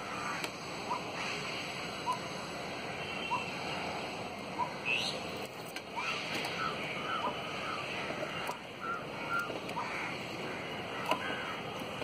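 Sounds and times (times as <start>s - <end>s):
small birds chirping: 0.0s - 12.0s
steady outdoor hiss: 0.0s - 12.0s.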